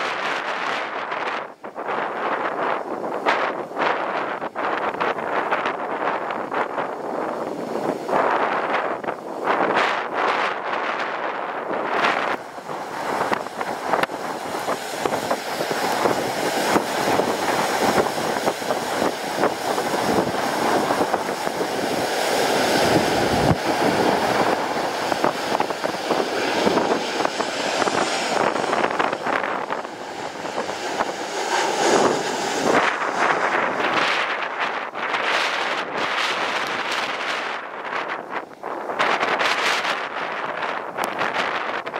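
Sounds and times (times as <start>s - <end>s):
jet engine roar: 0.0s - 41.9s
wind buffeting microphone: 0.0s - 41.9s.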